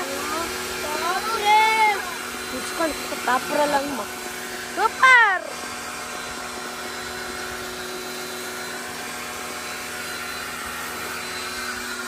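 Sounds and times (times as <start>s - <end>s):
pressure washer motor humming: 0.0s - 12.0s.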